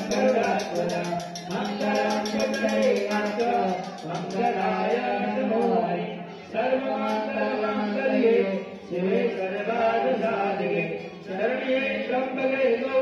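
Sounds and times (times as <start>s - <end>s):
voices chanting in unison: 0.0s - 13.0s.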